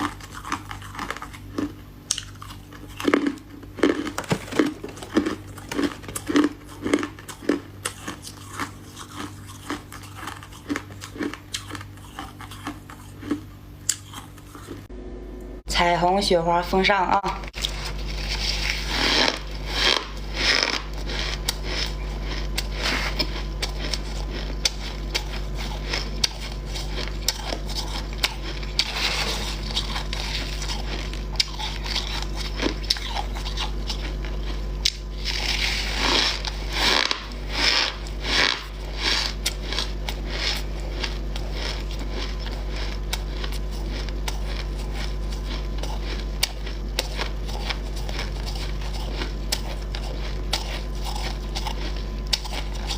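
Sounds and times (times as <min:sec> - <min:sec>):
frost being chewed: 0:00.0 - 0:14.9, 0:17.5 - 0:52.9
steady low hum: 0:00.0 - 0:52.9.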